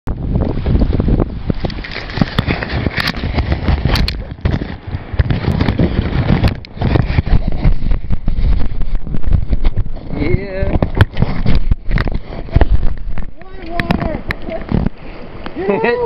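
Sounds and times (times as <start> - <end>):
wind rushing on microphone: 0.0 - 16.0
microphone handling crackles and knocks: 0.1 - 15.6.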